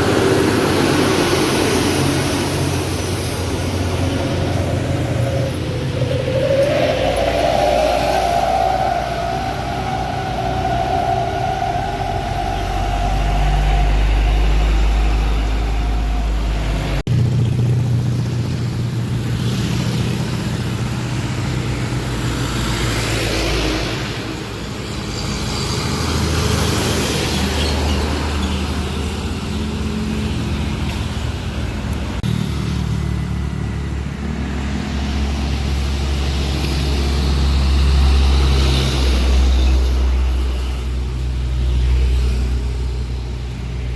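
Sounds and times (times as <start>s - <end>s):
traffic passing: 0.0s - 43.9s
truck diesel engines straining: 0.0s - 43.9s.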